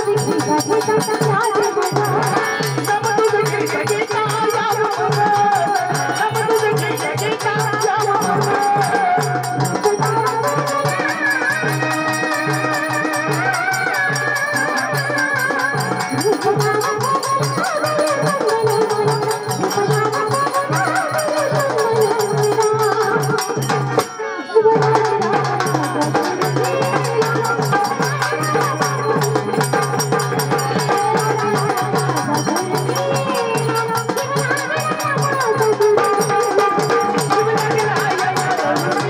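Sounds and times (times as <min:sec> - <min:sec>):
drum beats: 0:00.0 - 0:39.0
person singing: 0:00.0 - 0:39.0.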